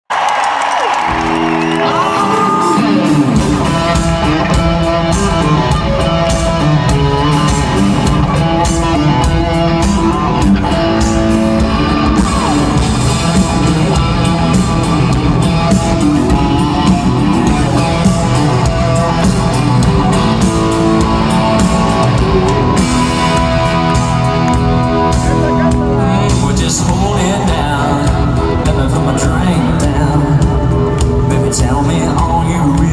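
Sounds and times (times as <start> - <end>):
drums: 0.1 - 32.9
electric guitar riff: 0.8 - 32.8.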